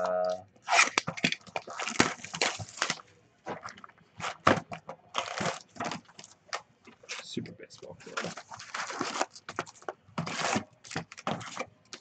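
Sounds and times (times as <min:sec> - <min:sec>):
plastic shrink wrap crinkling: 0:00.0 - 0:07.3, 0:08.0 - 0:12.0.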